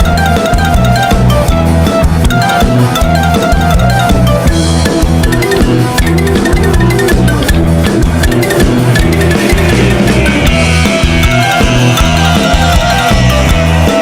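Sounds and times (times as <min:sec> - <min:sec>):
music with drums and guitar: 0:00.0 - 0:14.0.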